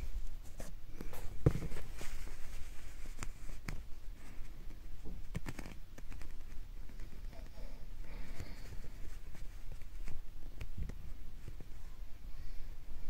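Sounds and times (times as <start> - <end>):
soft rustles and clicks: 0.0 - 12.2.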